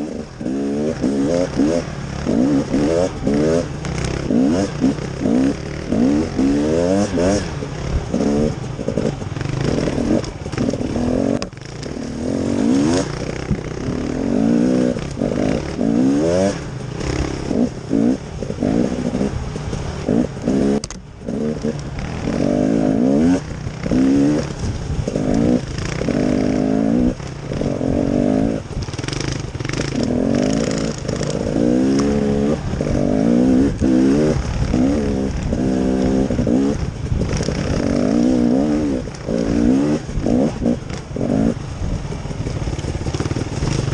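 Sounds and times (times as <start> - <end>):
off-road engine revving: 0.0 - 43.9.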